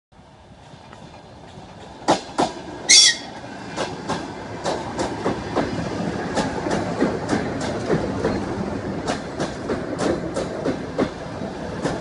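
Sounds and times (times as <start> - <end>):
train rumble: 0.1 - 12.0
train wheels clicking over rail joints: 0.5 - 12.0.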